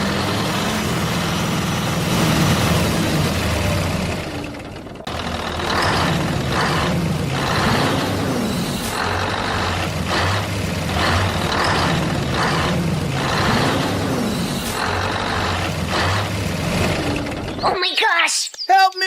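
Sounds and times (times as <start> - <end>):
heavy truck engine: 0.0 - 17.8.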